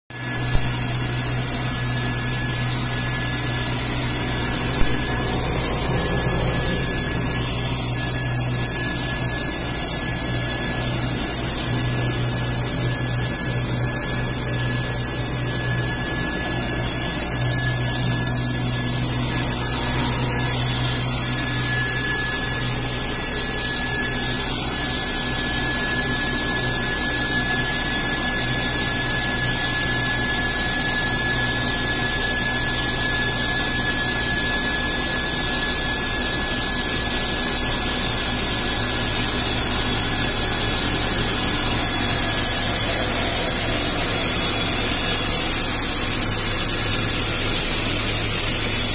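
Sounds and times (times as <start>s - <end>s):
plastic mill whining: 0.1s - 48.9s
blower fan hissing: 0.2s - 48.9s.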